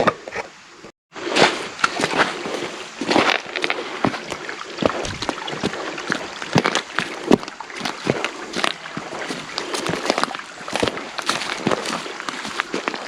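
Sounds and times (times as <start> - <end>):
footsteps on stones in creek: 1.2 - 13.0
water splashing: 1.2 - 13.0.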